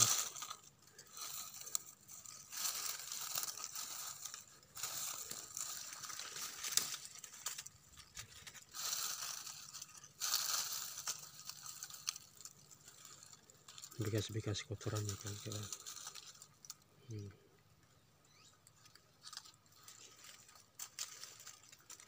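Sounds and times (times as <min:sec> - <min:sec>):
twigs and leaves crunching: 0:00.0 - 0:22.0.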